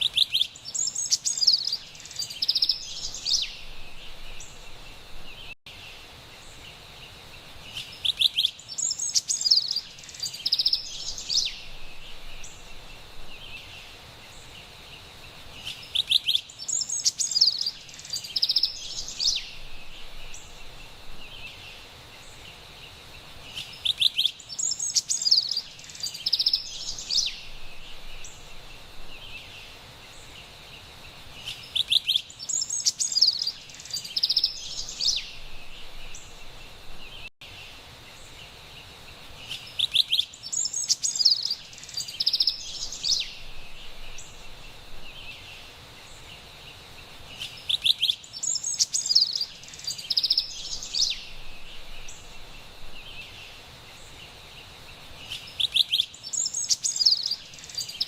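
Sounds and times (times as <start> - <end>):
wren singing: 0.0 - 5.6, 7.7 - 14.7, 15.5 - 22.4, 23.4 - 30.4, 31.3 - 37.3, 39.4 - 58.0
high-pitched background hiss: 0.0 - 58.0.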